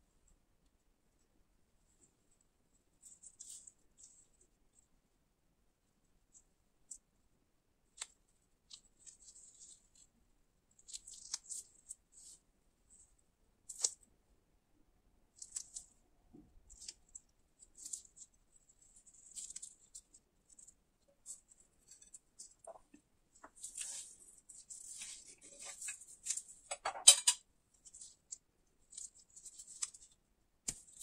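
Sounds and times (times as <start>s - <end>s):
gloves rustling and crackling: 0.2s - 5.0s, 7.8s - 14.3s, 15.2s - 31.0s.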